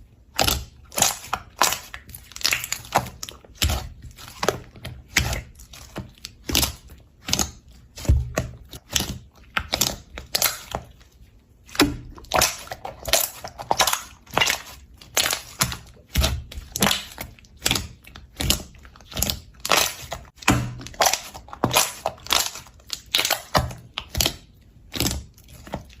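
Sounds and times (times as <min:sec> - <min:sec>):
slime squishing: 0:00.0 - 0:26.0.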